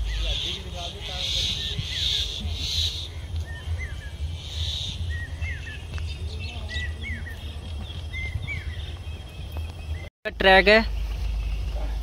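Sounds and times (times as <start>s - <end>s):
bird chirping: 0.0s - 12.0s
steady low rumble: 0.0s - 12.0s.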